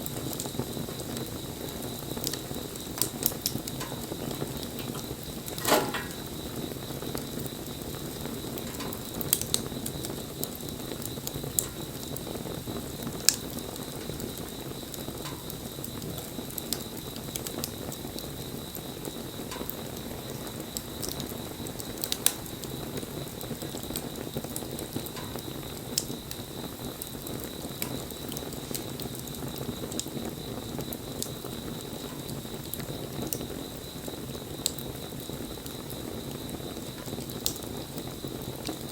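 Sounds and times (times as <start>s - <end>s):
bonfire flames rushing: 0.0s - 38.9s
fire crackling and popping: 0.0s - 38.9s.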